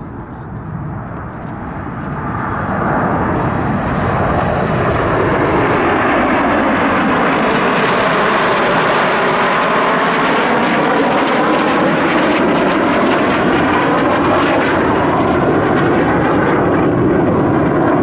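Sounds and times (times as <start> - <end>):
jet noise: 0.0 - 18.0.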